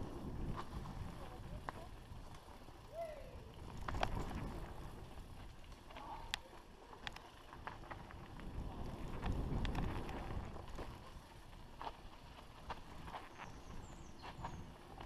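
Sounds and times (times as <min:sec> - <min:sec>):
wind on microphone: 0:00.0 - 0:06.4, 0:07.5 - 0:15.0
bike rattling over bumps: 0:00.0 - 0:15.0
bike tyres rumbling on dirt: 0:00.0 - 0:15.0.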